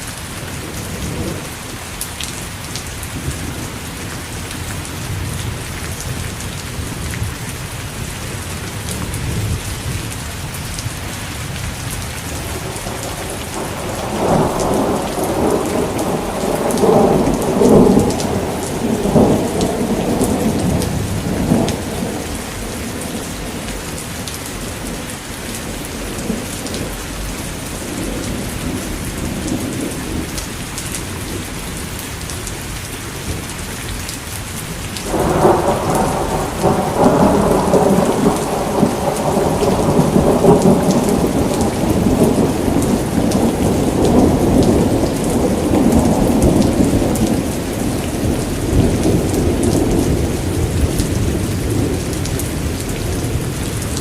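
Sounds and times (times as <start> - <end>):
steady rain: 0.0 - 54.0
thunder rumbling: 4.4 - 31.5, 35.0 - 54.0.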